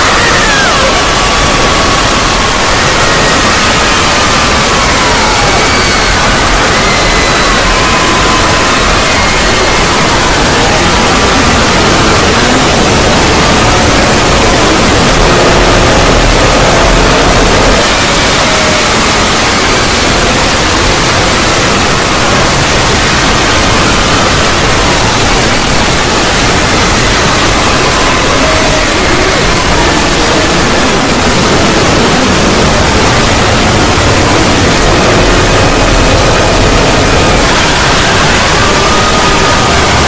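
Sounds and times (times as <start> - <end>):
faint gliding tones: 0.0 - 40.0
harsh static noise: 0.0 - 40.0.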